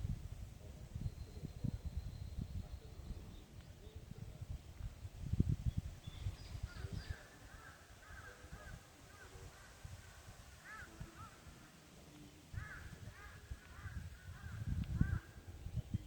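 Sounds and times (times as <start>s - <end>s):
wind gusts on microphone: 0.0s - 16.0s.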